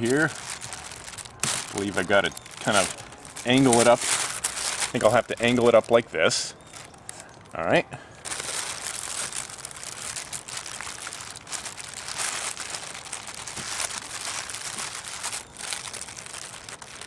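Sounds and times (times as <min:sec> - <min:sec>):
foil sunshade crinkling: 0:00.0 - 0:07.3, 0:08.2 - 0:17.0.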